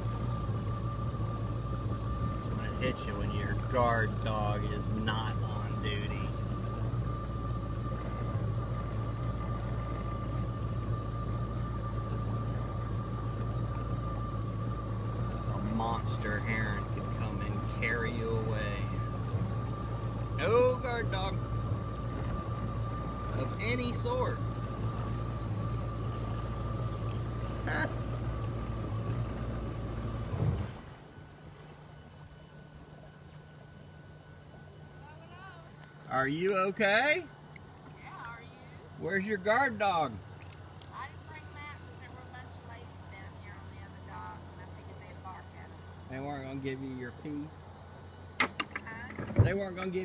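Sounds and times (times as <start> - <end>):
jet ski engine running: 0.0 - 50.0.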